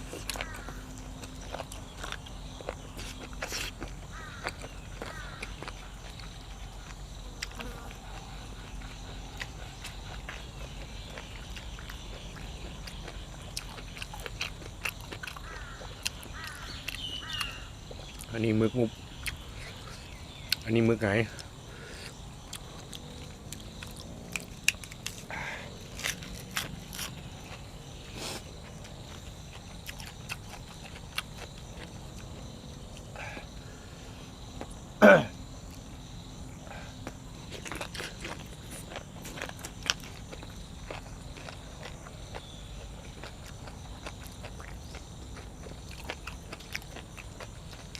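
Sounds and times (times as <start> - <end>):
person chewing crunchy food: 0.0 - 18.4, 19.1 - 20.7, 21.3 - 34.9, 35.5 - 47.9.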